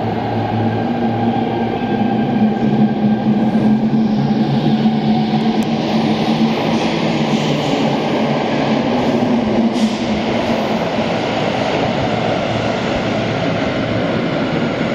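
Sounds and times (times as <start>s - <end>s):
train rolling rumble: 0.0s - 14.9s.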